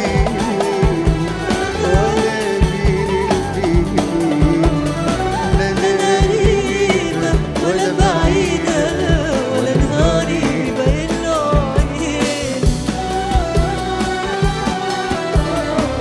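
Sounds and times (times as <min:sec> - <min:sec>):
pop band and orchestra playing: 0:00.0 - 0:16.0
steady drum beat: 0:00.0 - 0:16.0.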